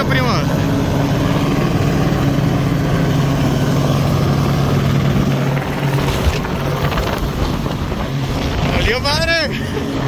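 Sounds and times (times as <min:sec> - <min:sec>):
helicopter rotor and engine drone: 0:00.0 - 0:10.0
rushing wind from downwash: 0:00.0 - 0:10.0.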